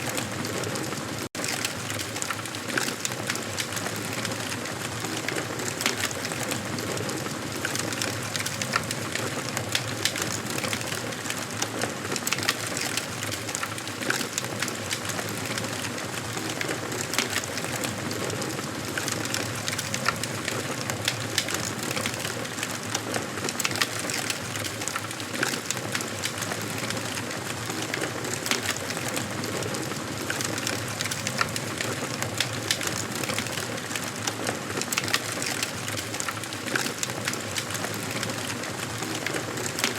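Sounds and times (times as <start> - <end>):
fire flames burning: 0.0 - 39.9
wood fire crackling and popping: 0.0 - 39.9.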